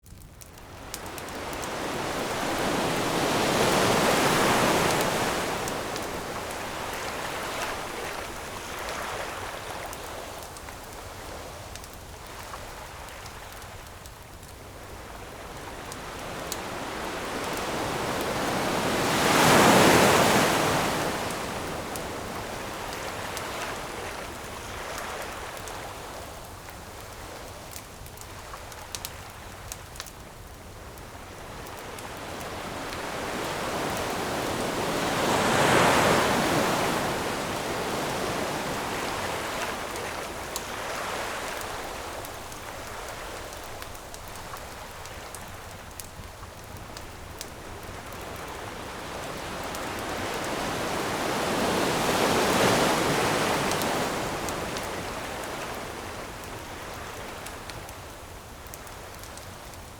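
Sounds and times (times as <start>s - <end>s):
campfire crackling: 0.0s - 59.9s
ocean waves washing onto shore: 0.0s - 59.9s.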